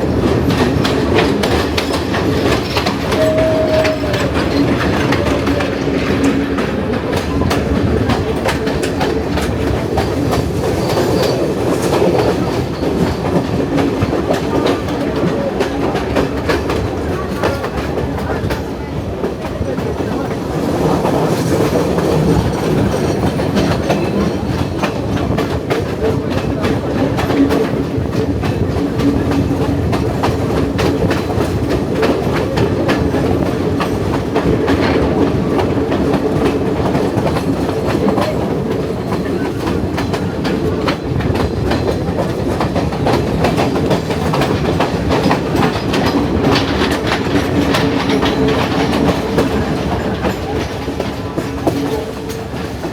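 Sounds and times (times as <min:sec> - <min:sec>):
train wheels rumbling on rail: 0:00.0 - 0:52.9
rapid clicking of wheels: 0:03.8 - 0:52.9.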